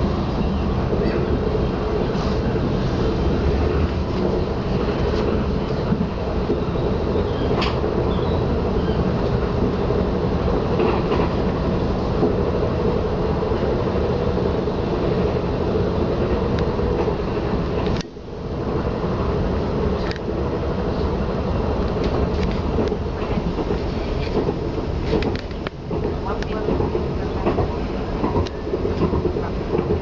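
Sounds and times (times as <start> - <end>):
train cabin rumble: 0.0 - 30.0.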